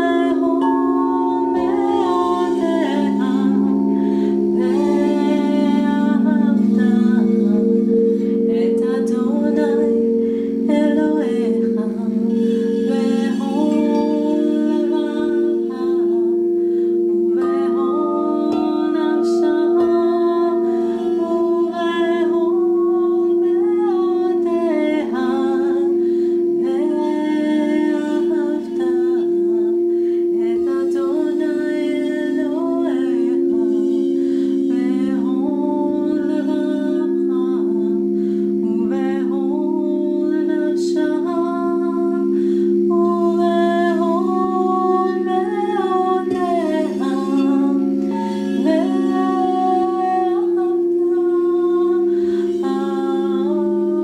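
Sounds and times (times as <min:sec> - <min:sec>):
singing bowls ringing: 0:00.0 - 0:54.0
woman singing: 0:00.0 - 0:54.0.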